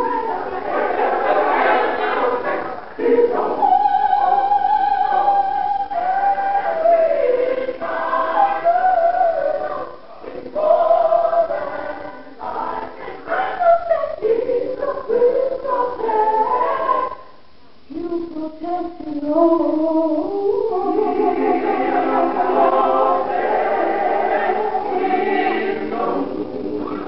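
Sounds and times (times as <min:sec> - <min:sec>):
gospel choir singing: 0:00.0 - 0:17.3, 0:19.4 - 0:27.0.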